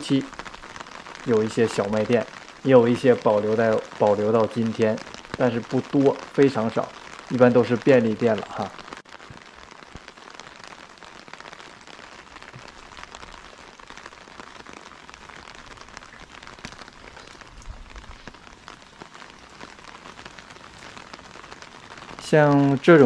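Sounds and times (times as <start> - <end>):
rain falling on wet street: 0.0 - 23.0.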